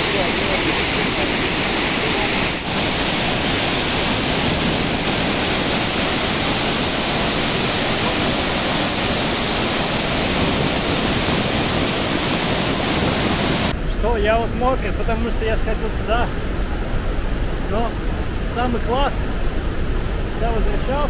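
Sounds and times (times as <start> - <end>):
rush of falling water: 0.0 - 21.0.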